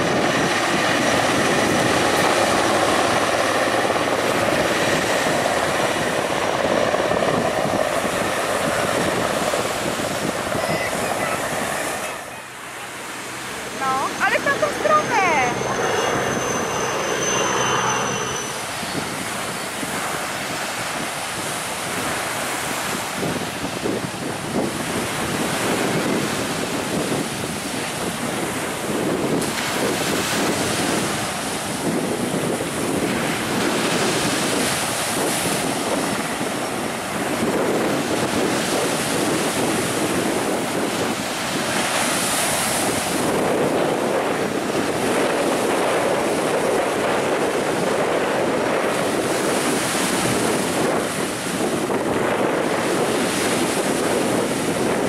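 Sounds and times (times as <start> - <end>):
helicopter rotor and engine: 0.0 - 55.0
rotor downwash rushing over water: 0.0 - 55.0
wind buffeting microphone: 0.0 - 55.0.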